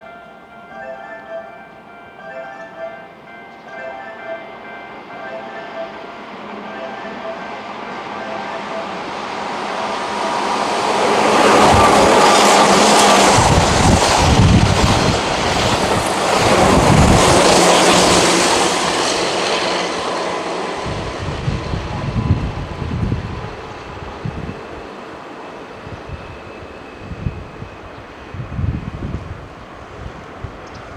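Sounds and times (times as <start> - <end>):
electric train passing at speed: 0.0 - 30.9.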